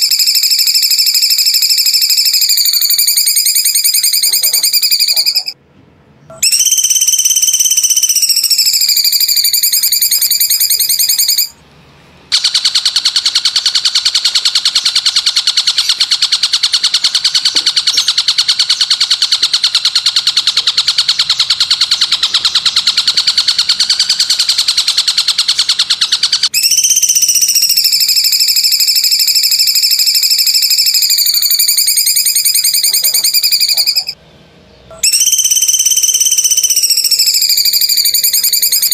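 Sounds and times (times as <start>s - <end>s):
high rapid pulsing bird trill: 0.0s - 5.6s, 6.3s - 11.6s, 12.3s - 34.2s, 34.9s - 38.9s.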